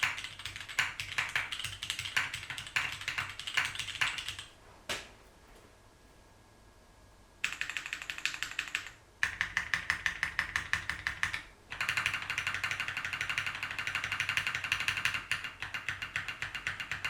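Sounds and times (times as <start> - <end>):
mechanical keyboard typing: 0.0 - 4.5, 7.4 - 17.0.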